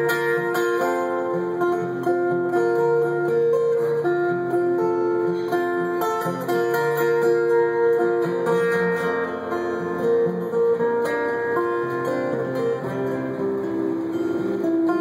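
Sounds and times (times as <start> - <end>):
acoustic guitar strummed and picked: 0.0 - 15.0.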